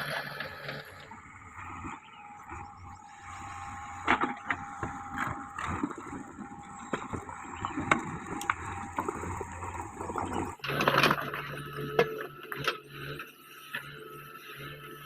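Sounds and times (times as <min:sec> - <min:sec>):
diesel engine running: 0:00.0 - 0:12.1.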